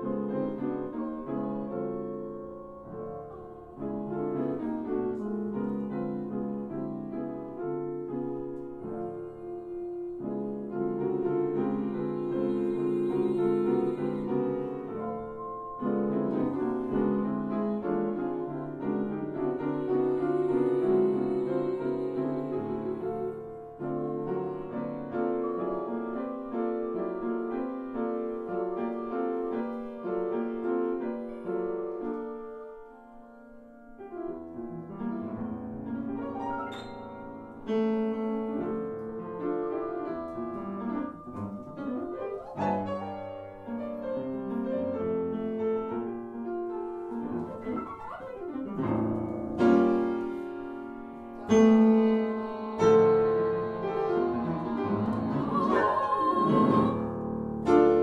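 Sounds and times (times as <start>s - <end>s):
piano playing chords and melody: 0.0s - 58.0s.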